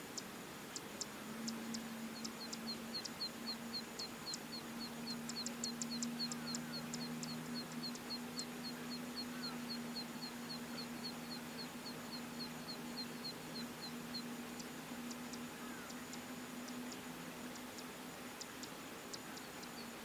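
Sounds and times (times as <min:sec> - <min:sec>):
steady low hum: 0:00.0 - 0:20.0
sharp irregular ticks: 0:00.1 - 0:20.0
small bird calling: 0:00.2 - 0:20.0.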